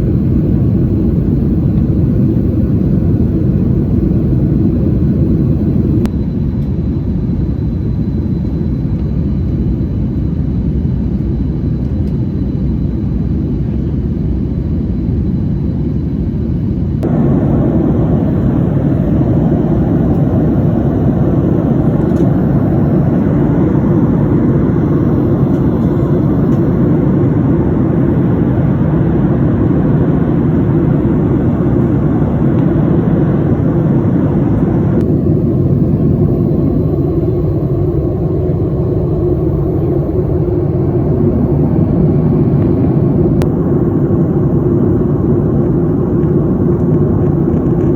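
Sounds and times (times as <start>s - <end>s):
jet engines and airflow rumble: 0.0s - 47.9s.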